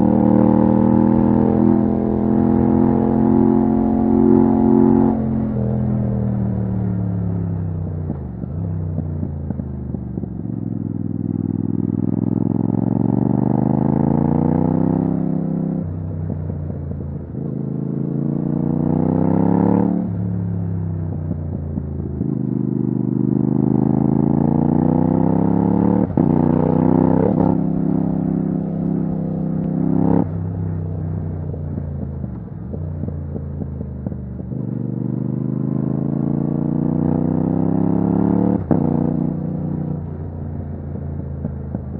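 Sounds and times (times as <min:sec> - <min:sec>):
motorcycle engine accelerating hard: 0:00.0 - 0:41.9.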